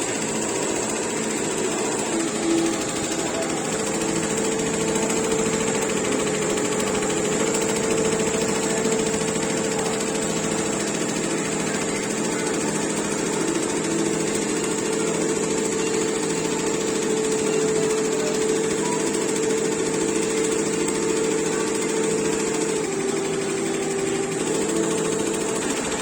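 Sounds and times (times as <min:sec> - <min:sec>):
embroidery machine stitching: 0:00.0 - 0:26.0.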